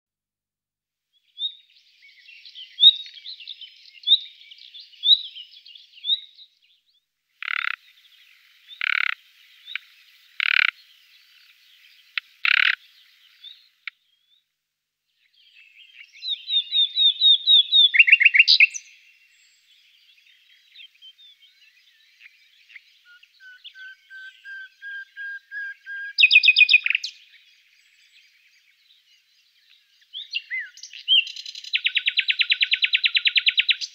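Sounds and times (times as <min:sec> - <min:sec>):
nightingale singing: 0:01.1 - 0:33.9.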